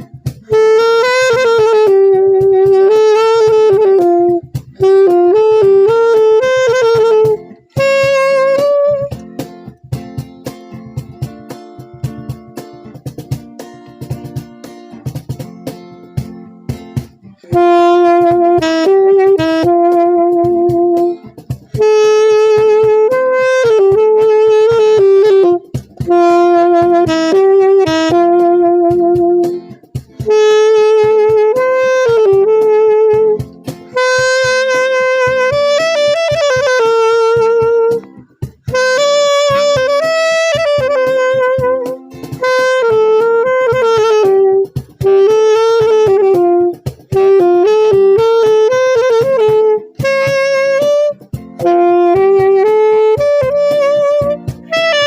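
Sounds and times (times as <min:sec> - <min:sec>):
saxophone slow melody: 0:00.0 - 0:10.0, 0:16.3 - 0:55.0
guitar accompaniment: 0:00.0 - 0:55.0.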